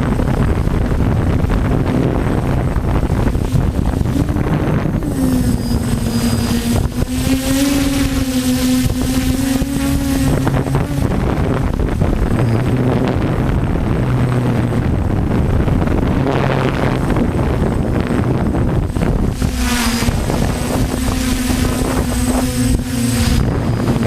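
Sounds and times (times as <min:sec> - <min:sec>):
drone propellers humming: 0:00.0 - 0:24.0
wind buffeting microphone: 0:00.0 - 0:24.0.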